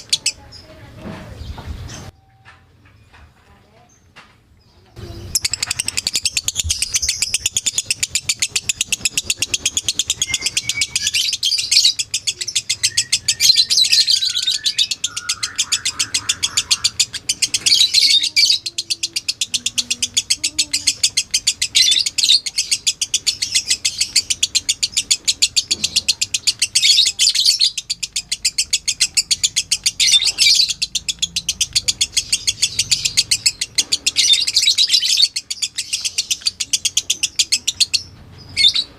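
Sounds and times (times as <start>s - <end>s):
lovebird chattering: 0.0s - 0.8s, 5.0s - 38.9s.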